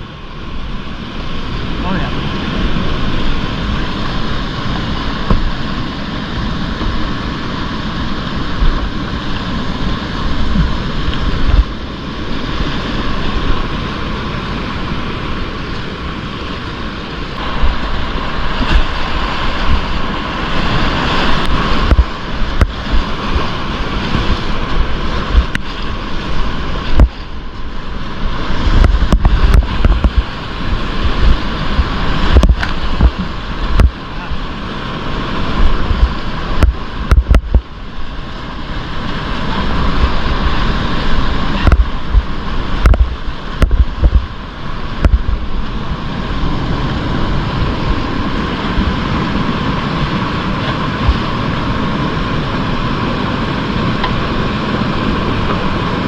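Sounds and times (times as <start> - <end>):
whitewater river rushing: 0.0 - 56.0
wind buffeting microphone: 0.0 - 56.0.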